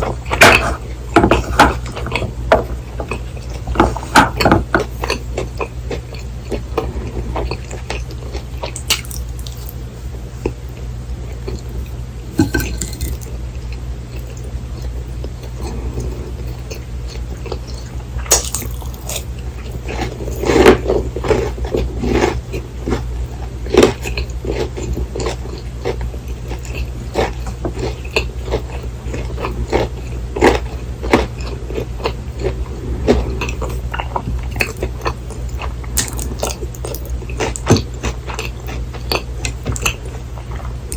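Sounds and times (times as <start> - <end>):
chewing crunchy food: 0.0 - 40.9
steady low hum: 0.0 - 40.9.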